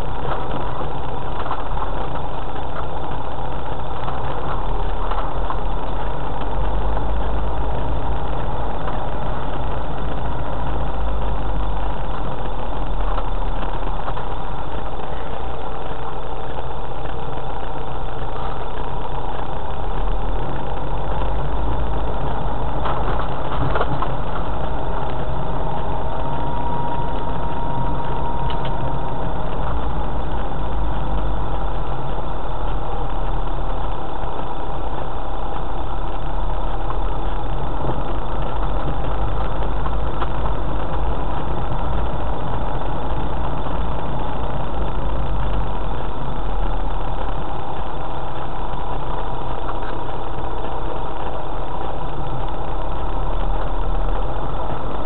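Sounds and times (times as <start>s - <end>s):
vehicle engine and tyre rumble: 0.0s - 55.0s.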